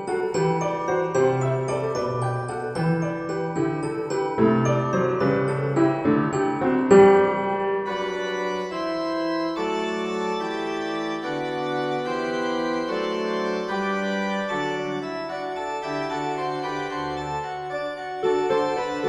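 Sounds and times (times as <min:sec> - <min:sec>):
organ-like keyboard chords: 0:00.0 - 0:19.0.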